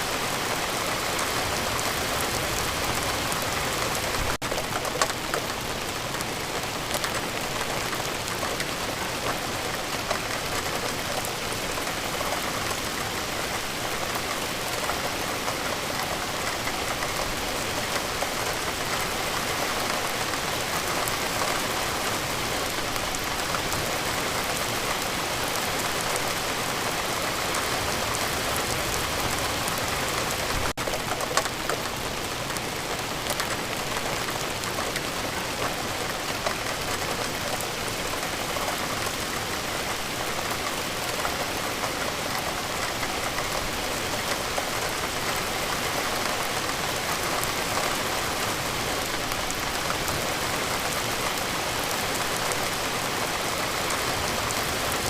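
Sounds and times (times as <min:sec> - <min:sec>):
steady rain falling: 0:00.0 - 0:55.0
raindrops ticking: 0:00.3 - 0:55.0.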